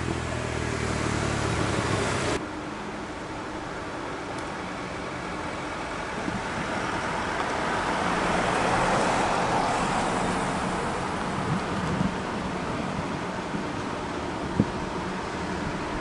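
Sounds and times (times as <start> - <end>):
road traffic rush: 0.0 - 16.0.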